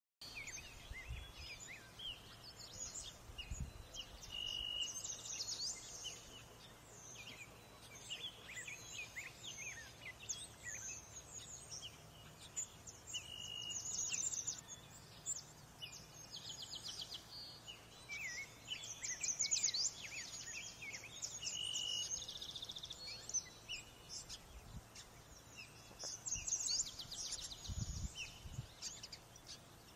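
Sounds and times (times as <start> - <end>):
small birds chirping: 0.2 - 29.9.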